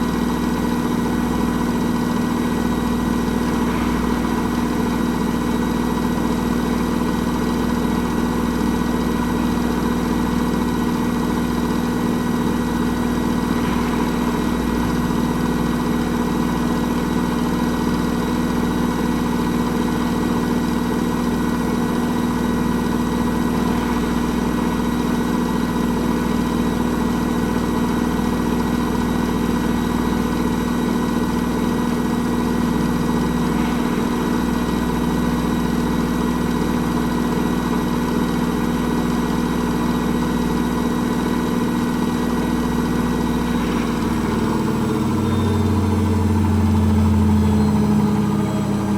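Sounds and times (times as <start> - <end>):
washing machine running: 0.0 - 48.9.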